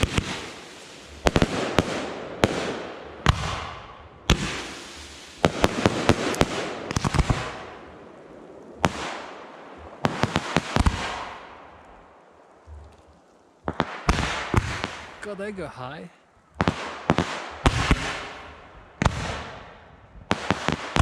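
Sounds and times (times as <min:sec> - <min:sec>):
fireworks banging: 0:00.0 - 0:11.8, 0:13.6 - 0:15.8, 0:16.6 - 0:21.0.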